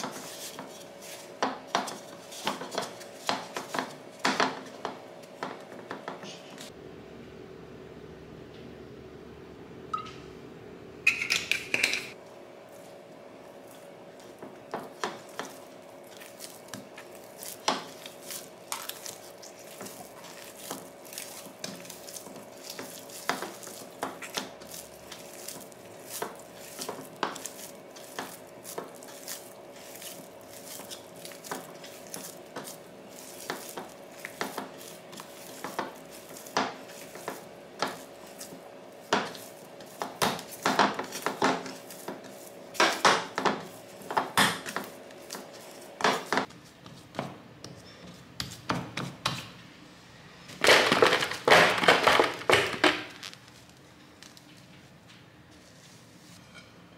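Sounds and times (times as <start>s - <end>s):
dough kneading in wooden bowl: 0.0s - 6.7s, 11.4s - 47.5s, 50.5s - 54.4s
steady hum: 0.0s - 46.8s.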